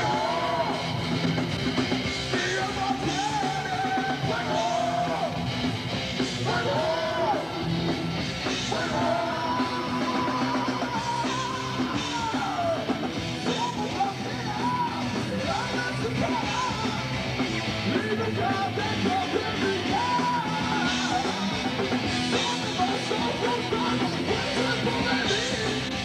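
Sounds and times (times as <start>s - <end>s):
heavy metal band playing live: 0.0s - 26.0s.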